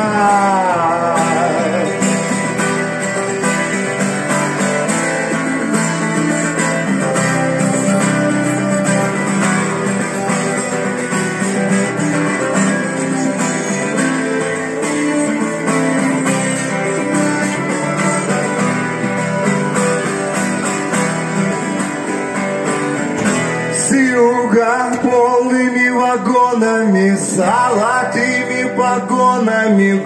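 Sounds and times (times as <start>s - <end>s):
guitar strumming chords: 0.0s - 30.0s.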